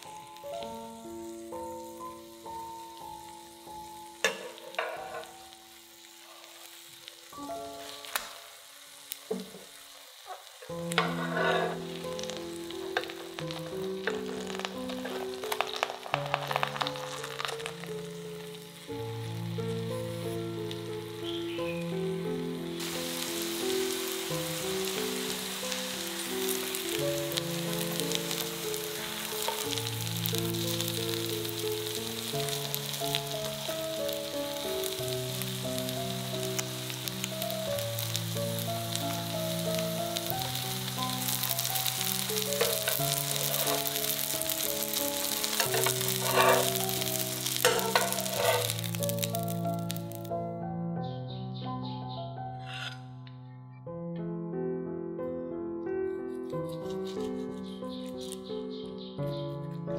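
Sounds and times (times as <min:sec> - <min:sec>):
background music: 0:00.0 - 0:06.5, 0:10.7 - 0:59.9
food sizzling in a pan: 0:00.0 - 0:50.4.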